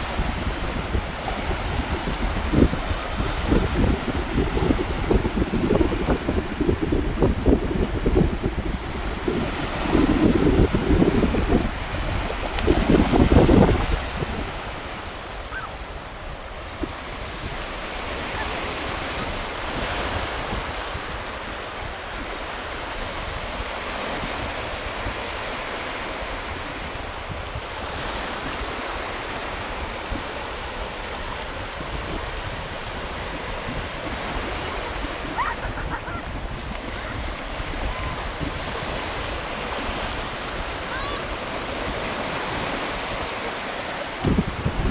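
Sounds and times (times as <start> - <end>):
small waves breaking in shallows: 0.0 - 44.9
wind buffeting microphone: 0.0 - 44.9.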